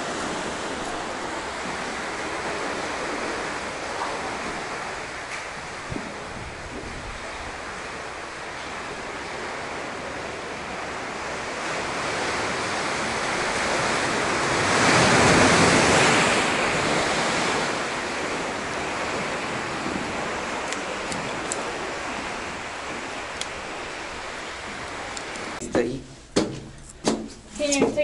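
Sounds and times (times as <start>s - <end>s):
ocean waves surging: 0.0s - 28.0s.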